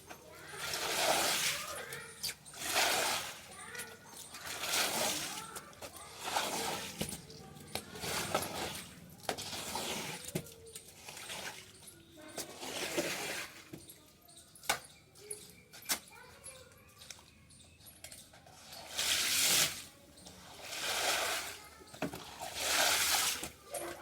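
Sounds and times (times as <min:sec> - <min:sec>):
water splashing and swishing: 0:00.0 - 0:13.8, 0:18.6 - 0:24.0.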